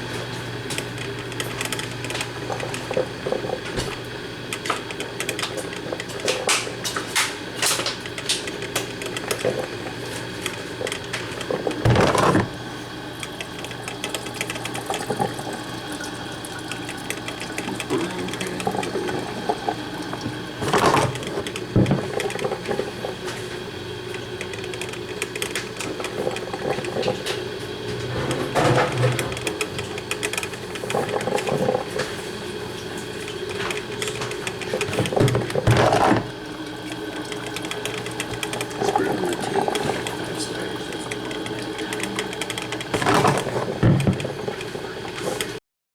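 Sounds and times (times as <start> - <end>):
coffee maker gurgling and sputtering: 0.0 - 45.6
coffee maker humming: 0.0 - 45.6.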